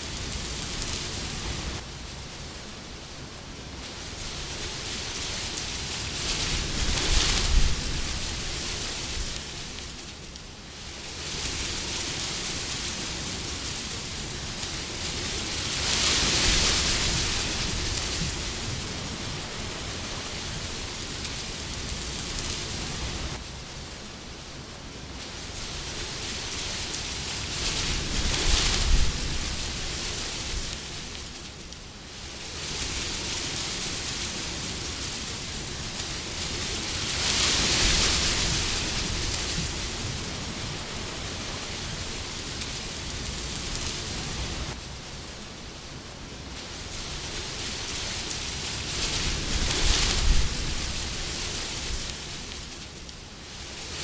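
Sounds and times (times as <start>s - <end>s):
wind blowing: 0.0s - 31.7s, 32.3s - 54.0s.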